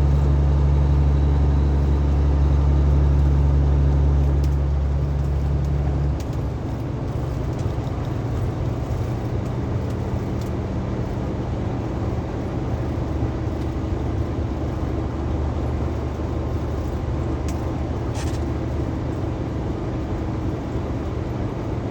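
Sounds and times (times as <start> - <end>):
road noise: 0.0 - 21.9
truck engine drone: 0.0 - 21.9.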